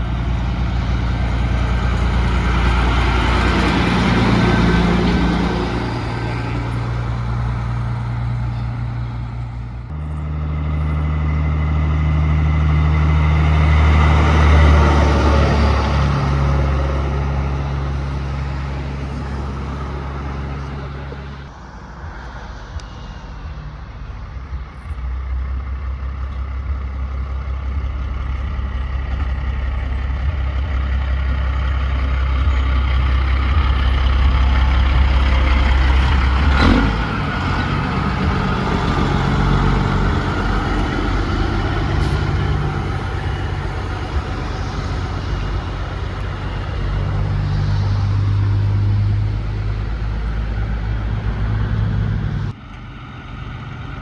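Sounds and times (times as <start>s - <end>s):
truck diesel engine drone: 0.0s - 54.0s.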